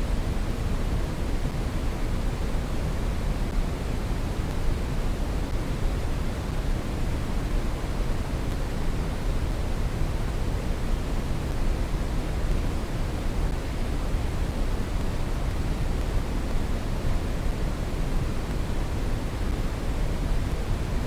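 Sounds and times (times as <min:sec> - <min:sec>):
brown noise hiss: 0:00.0 - 0:21.0.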